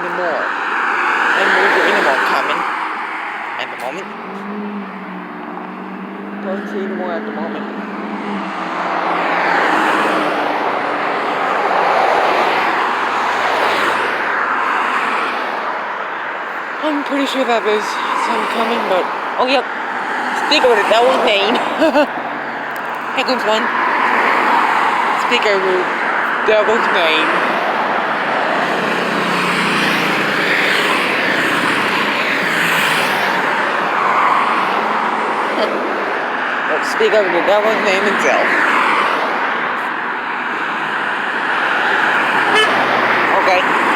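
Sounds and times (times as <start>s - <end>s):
truck engine drone: 0.0s - 14.4s, 15.1s - 43.9s
highway traffic passing: 0.0s - 43.9s
truck tyre and road noise: 0.0s - 43.9s.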